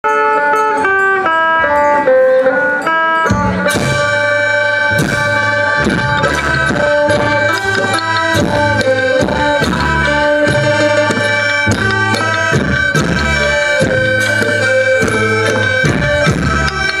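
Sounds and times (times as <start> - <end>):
bass: 0.0 - 17.0
drone notes: 0.1 - 17.0
plucked lute melody: 0.1 - 17.0
drums beating: 3.2 - 17.0.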